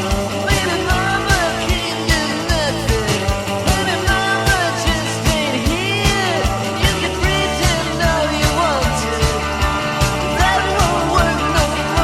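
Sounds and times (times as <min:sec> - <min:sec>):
rock music with drum beat: 0:00.0 - 0:12.0.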